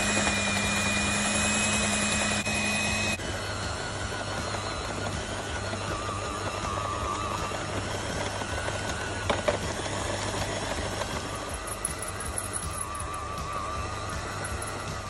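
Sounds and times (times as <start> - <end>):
stand mixer kneading dough: 0.0 - 15.0.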